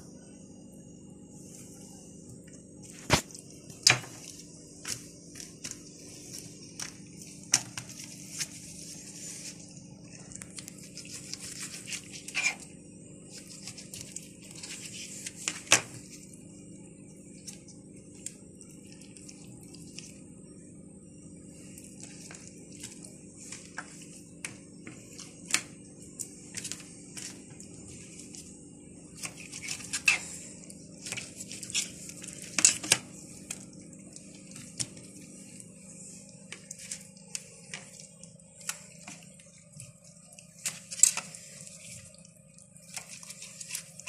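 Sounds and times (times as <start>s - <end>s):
faint steady hum: 0.0s - 44.0s
plastic gloves rustling: 1.3s - 44.0s.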